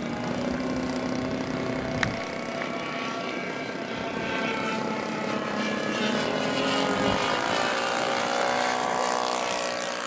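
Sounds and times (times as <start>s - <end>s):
model plane engine buzzing: 0.0s - 10.0s.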